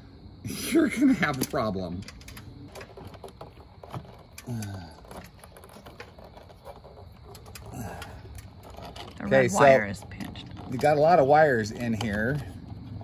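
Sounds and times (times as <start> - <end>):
light fixture clicking and scraping: 1.2 - 13.0
wires being stuffed in: 1.3 - 12.5.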